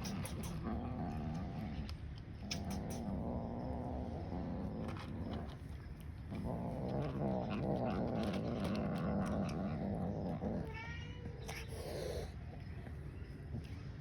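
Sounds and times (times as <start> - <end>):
cat growling: 0.0 - 12.8.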